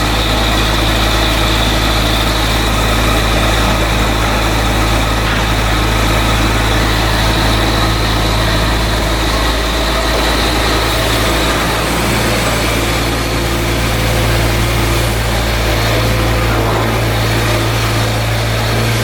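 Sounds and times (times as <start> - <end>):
heavy machinery engine hum: 0.0 - 19.0.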